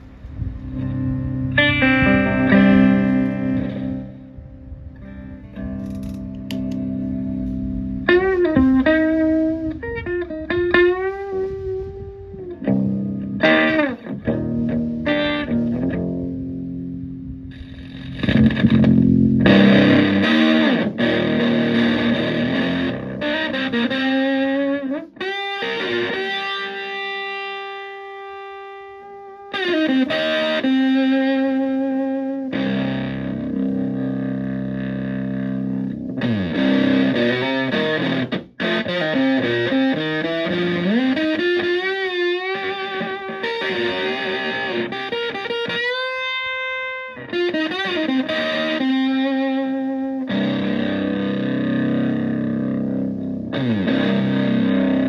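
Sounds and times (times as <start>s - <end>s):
fuzzy distorted electric guitar: 0.0s - 55.0s.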